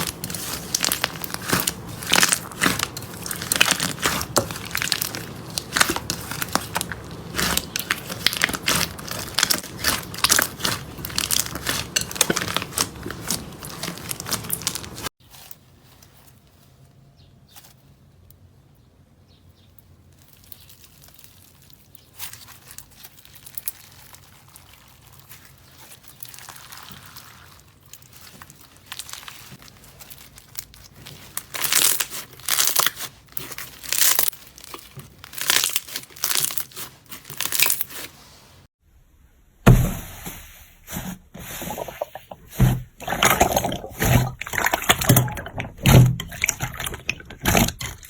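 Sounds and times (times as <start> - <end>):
slime crackling and squishing: 0.0 - 16.7, 20.0 - 38.5, 41.4 - 48.0.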